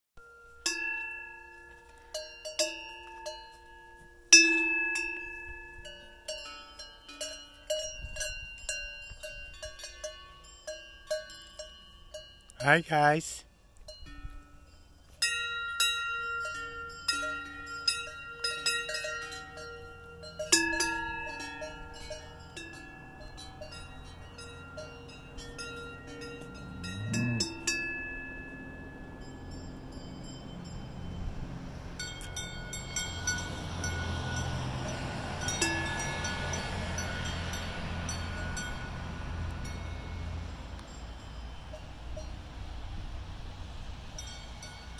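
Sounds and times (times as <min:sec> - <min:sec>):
cowbells clanking and ringing: 0:00.2 - 0:43.1, 0:44.0 - 0:44.9.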